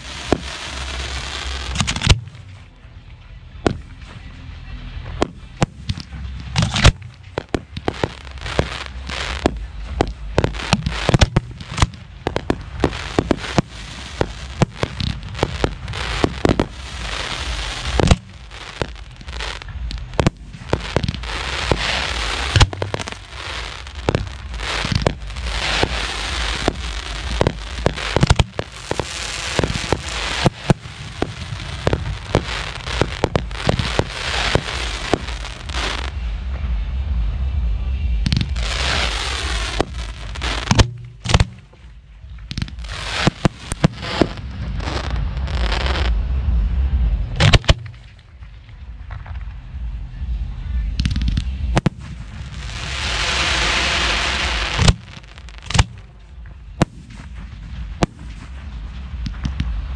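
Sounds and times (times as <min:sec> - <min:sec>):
firework crackling: 0:00.0 - 0:37.4, 0:38.1 - 0:59.9
low rumble: 0:00.0 - 0:59.9.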